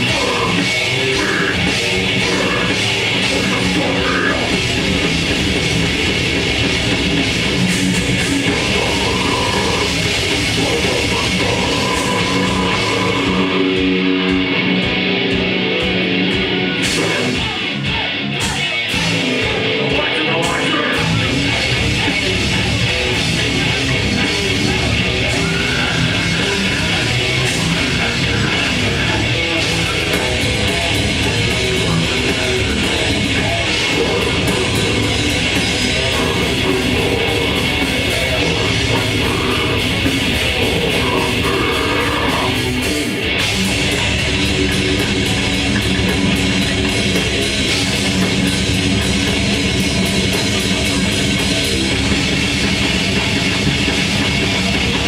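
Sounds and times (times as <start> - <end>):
grindcore band playing live: 0.0 - 55.0.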